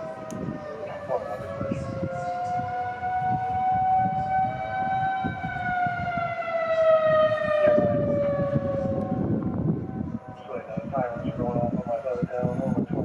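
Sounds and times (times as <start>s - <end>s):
tornado warning siren: 0.0s - 13.0s.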